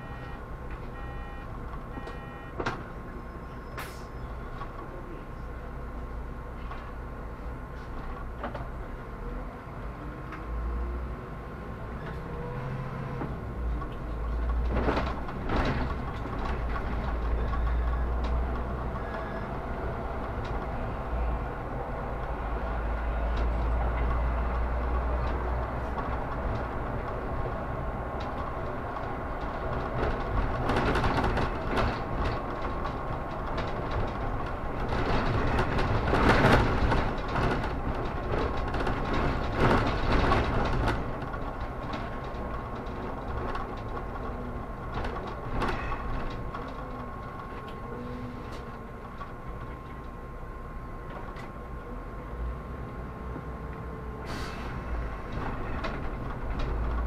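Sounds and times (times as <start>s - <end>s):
bus engine low rumble: 0.0s - 57.0s.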